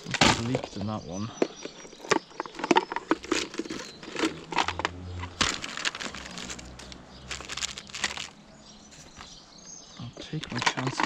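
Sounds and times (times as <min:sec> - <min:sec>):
small objects clicking and knocking: 0:00.0 - 0:08.4, 0:10.4 - 0:11.0
rustling and crinkling: 0:00.0 - 0:11.0.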